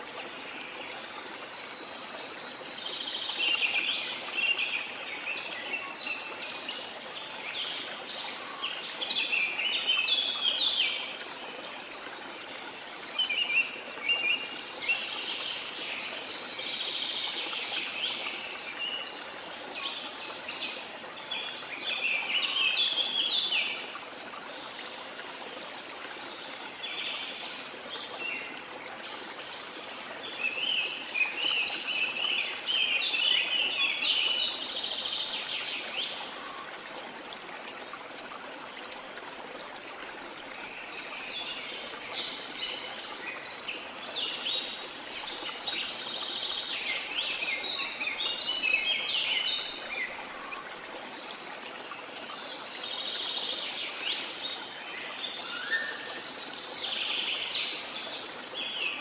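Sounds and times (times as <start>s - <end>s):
songbirds chirping: 0.0s - 59.0s
water flowing: 0.0s - 59.0s.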